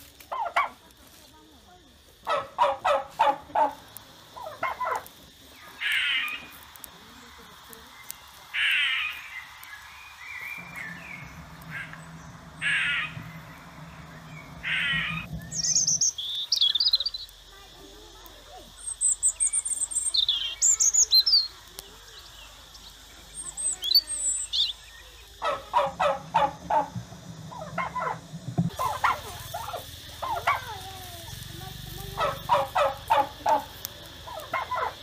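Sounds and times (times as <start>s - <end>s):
wild birds chirping: 1.9s - 35.0s.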